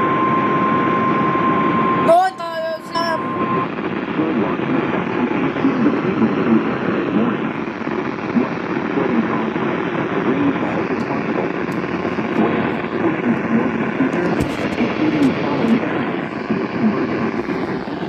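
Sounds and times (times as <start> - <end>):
radio static: 0.0 - 18.0
faint voice on radio: 2.1 - 18.0.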